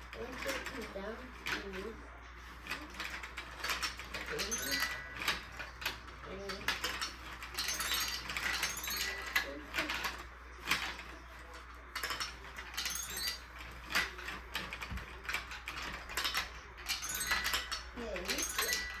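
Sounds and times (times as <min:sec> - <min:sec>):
marbles clicking and clattering: 0:00.0 - 0:19.0.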